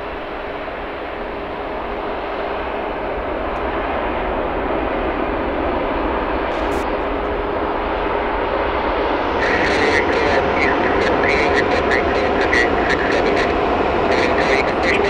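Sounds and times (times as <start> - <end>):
jet engines at taxi power: 0.0 - 15.0.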